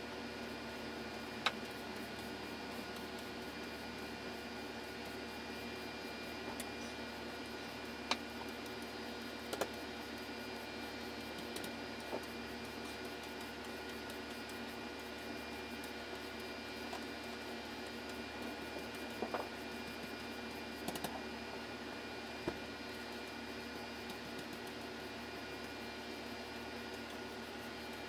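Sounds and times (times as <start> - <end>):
electrical hum and hiss: 0.0 - 28.0.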